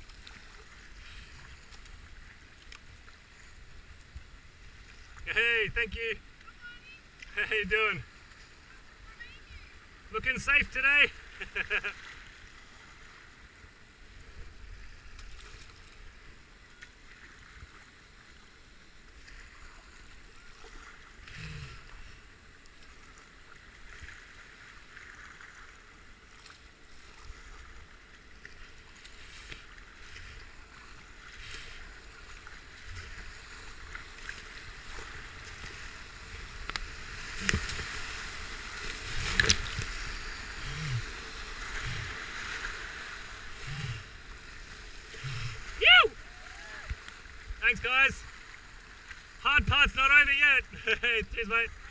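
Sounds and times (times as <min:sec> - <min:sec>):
paddle strokes: 0:00.0 - 0:51.9
water rushing past kayak hull: 0:00.0 - 0:51.9.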